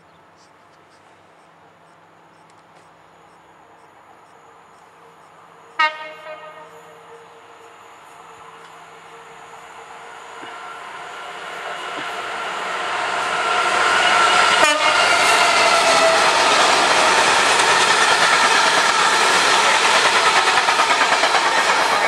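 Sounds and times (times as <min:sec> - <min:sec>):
freight train passing: 0:01.2 - 0:22.0.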